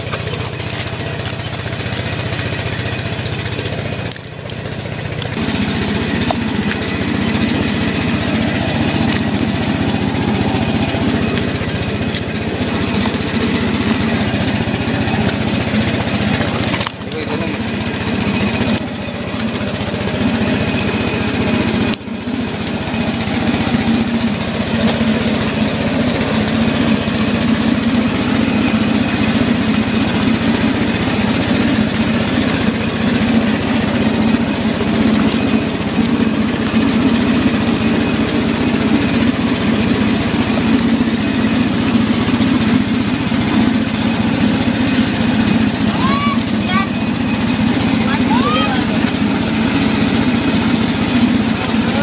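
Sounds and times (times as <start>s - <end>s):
small engine running: 0.0s - 52.0s.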